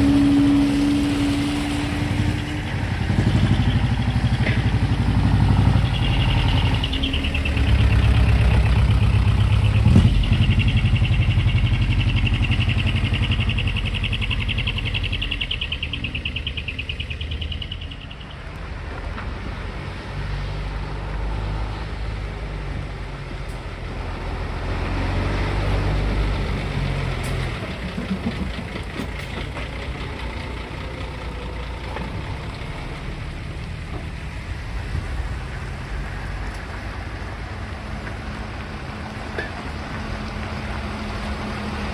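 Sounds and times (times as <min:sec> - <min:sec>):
heavy truck engines rumbling: 0:00.0 - 0:41.9.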